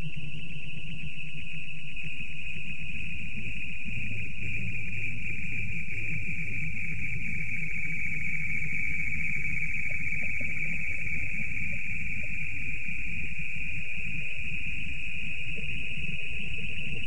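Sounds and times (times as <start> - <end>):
high-pitched whine-like hiss: 0.0 - 17.0.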